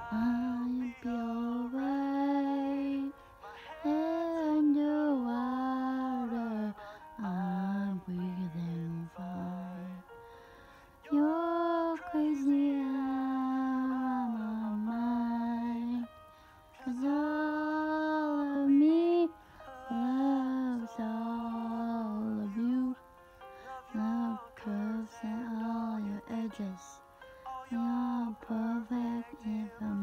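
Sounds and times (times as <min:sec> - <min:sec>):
woman singing slow song: 0:00.0 - 0:10.1, 0:11.0 - 0:30.0
faint musical accompaniment: 0:00.0 - 0:30.0.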